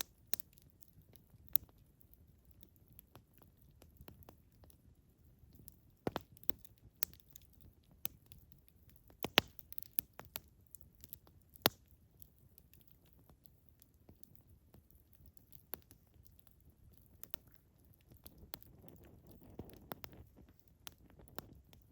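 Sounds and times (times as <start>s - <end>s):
campfire crackling: 0.0s - 21.9s.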